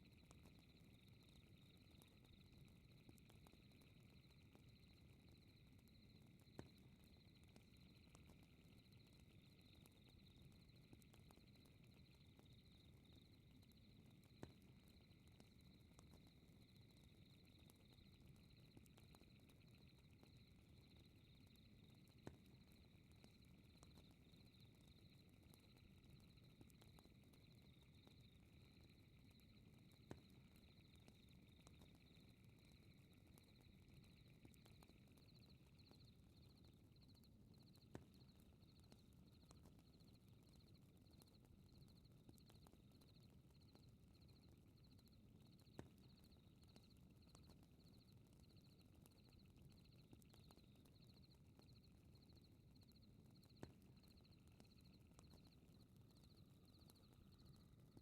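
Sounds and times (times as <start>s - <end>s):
fire crackling and popping: 0.0s - 58.0s
lower insect trill: 0.0s - 58.0s.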